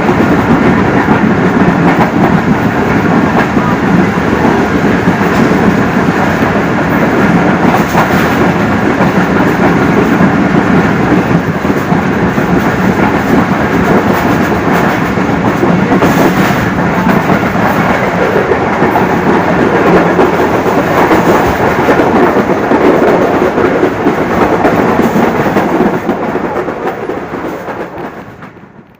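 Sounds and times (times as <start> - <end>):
train passing at speed: 0.0 - 28.9.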